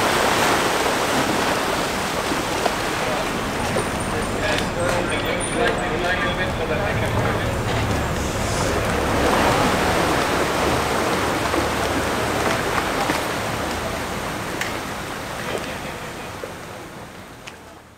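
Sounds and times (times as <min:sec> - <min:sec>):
rushing water: 0:00.0 - 0:17.9.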